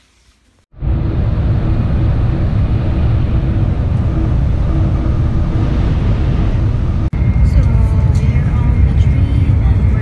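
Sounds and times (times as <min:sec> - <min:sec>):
train rumbling at speed: 0:00.8 - 0:10.0.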